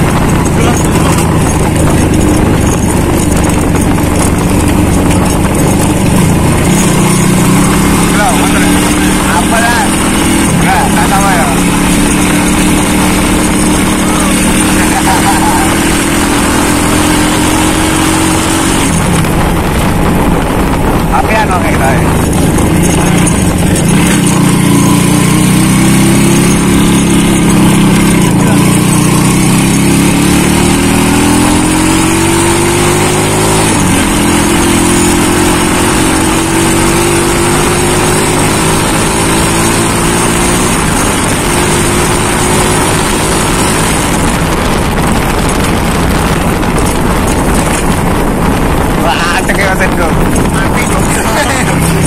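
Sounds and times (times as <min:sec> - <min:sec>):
motorcycle engine accelerating: 0:00.0 - 0:52.0
wind and road rush: 0:00.0 - 0:52.0.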